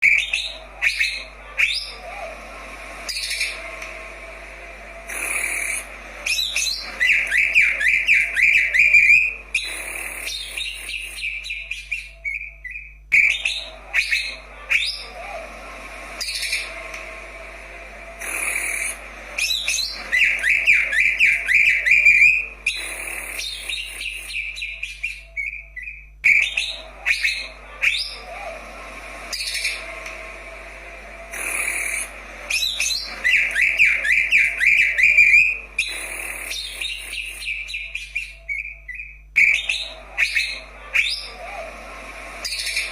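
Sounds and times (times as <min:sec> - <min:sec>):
bird whistled trills and chirps: 0:00.0 - 0:02.3, 0:03.0 - 0:03.8, 0:05.1 - 0:15.4, 0:18.2 - 0:28.6, 0:29.3 - 0:30.0, 0:31.4 - 0:41.7, 0:42.4 - 0:42.9
faint low hum: 0:00.0 - 0:42.9.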